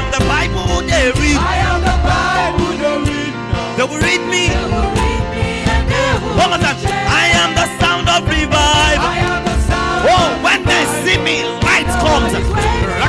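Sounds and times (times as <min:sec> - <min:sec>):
bass: 0:00.0 - 0:13.0
choir singing gospel: 0:00.0 - 0:13.0
drum beat: 0:00.0 - 0:13.0.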